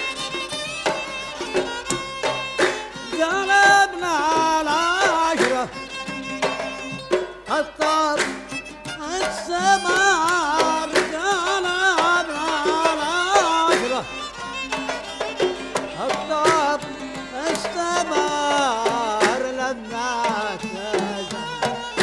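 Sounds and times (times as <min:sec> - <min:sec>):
oud plucked melody: 0:00.0 - 0:22.0.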